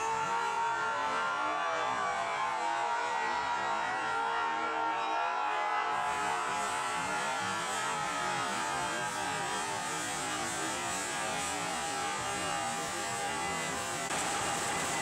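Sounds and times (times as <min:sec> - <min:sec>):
crowd cheering and shouting: 0:00.0 - 0:15.0.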